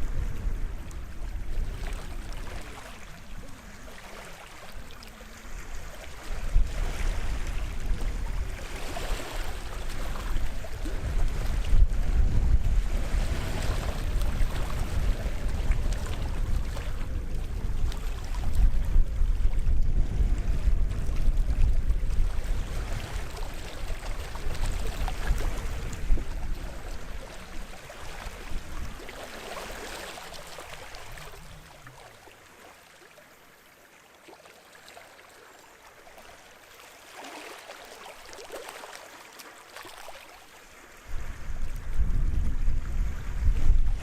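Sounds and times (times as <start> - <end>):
wind rumbling on microphone: 0.0 - 32.3, 40.7 - 44.0
sea waves lapping at shore: 0.0 - 44.0.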